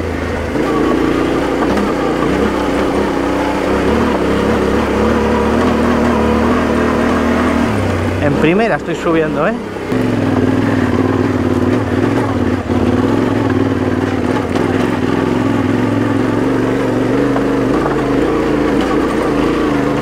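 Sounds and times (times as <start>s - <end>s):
motorcycle engine under load: 0.0s - 20.0s.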